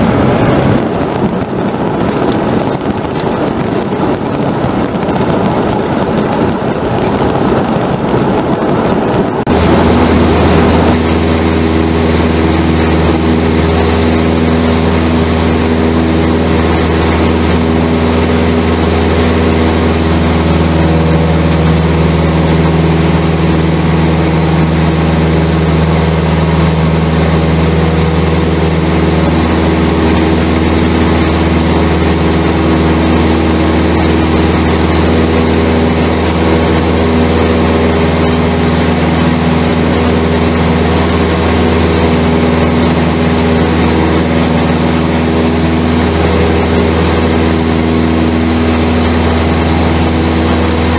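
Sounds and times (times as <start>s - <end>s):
propeller plane engine drone: 0.0s - 50.9s.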